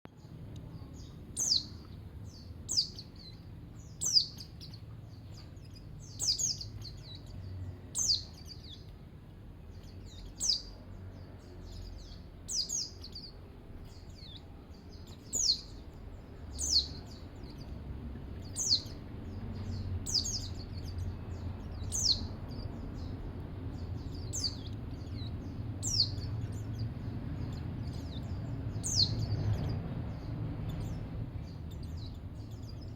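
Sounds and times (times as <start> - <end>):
steady low rumble: 0.1 - 32.9.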